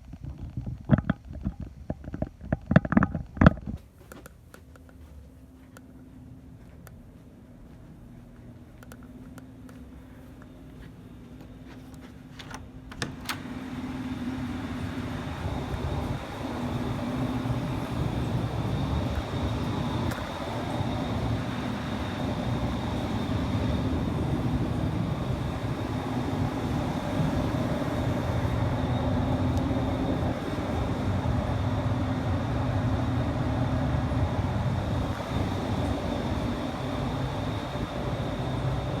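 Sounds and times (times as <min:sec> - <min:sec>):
air conditioner humming: 0:00.0 - 0:39.0.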